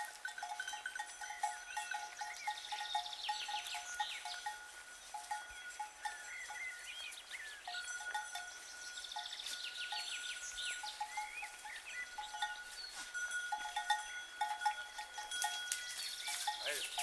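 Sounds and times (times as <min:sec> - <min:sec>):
birds chirping: 0:00.0 - 0:17.0
livestock bells clanking: 0:00.0 - 0:17.0.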